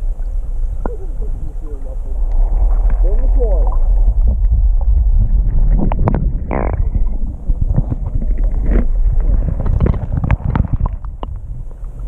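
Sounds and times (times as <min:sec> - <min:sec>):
muffled underwater water rumble: 0:00.0 - 0:12.0.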